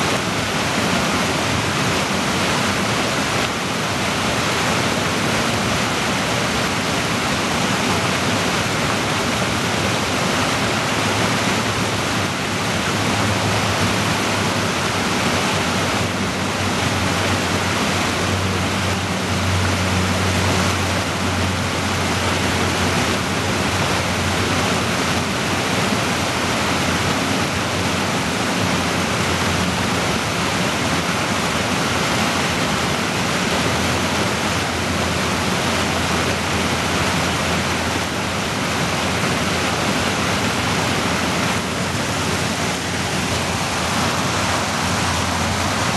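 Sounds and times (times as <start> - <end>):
creek rushing over boulders: 0.0 - 45.9.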